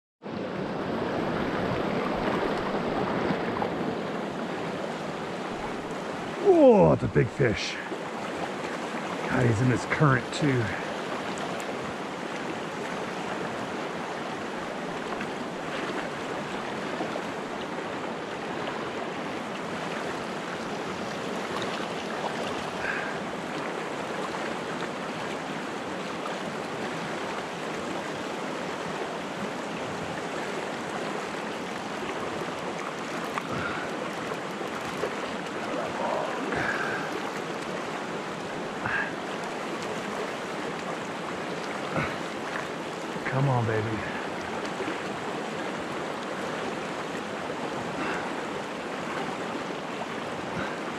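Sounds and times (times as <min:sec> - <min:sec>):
fast river current rushing: 0:00.2 - 0:50.9.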